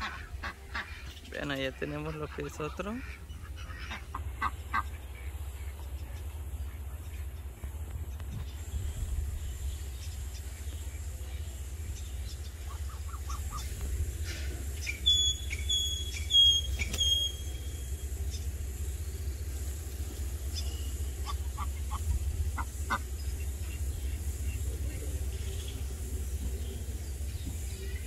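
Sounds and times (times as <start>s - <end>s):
bird chirping: 0.0s - 28.0s
steady low rumble: 0.0s - 28.0s.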